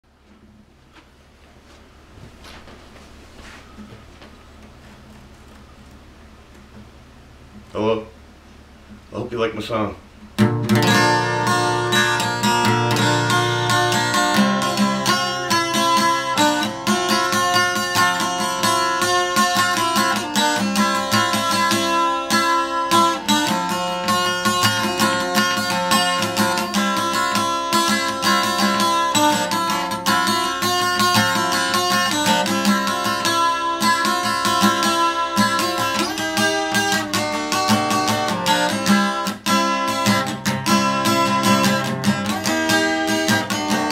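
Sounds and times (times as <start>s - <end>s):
acoustic guitar strumming: 1.9s - 43.9s.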